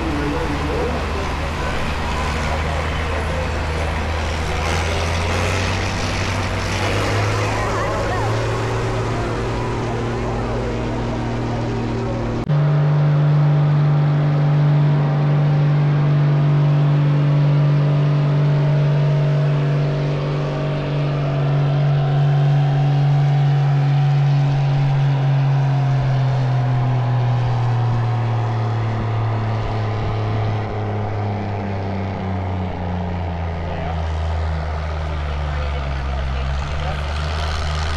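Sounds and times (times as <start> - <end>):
diesel engine at full throttle: 0.0 - 37.9.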